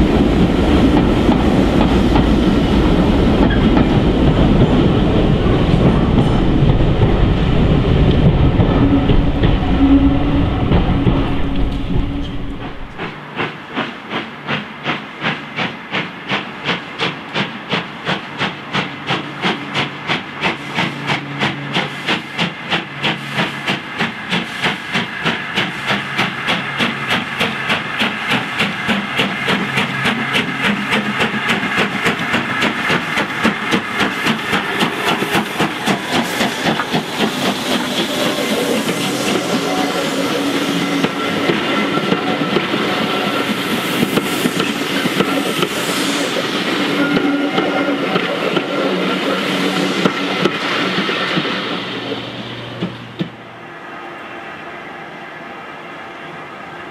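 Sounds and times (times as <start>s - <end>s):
steam hissing: 0.0s - 53.5s
steam locomotive exhaust beats: 0.0s - 53.8s
low rumble of train in tunnel: 0.0s - 56.9s.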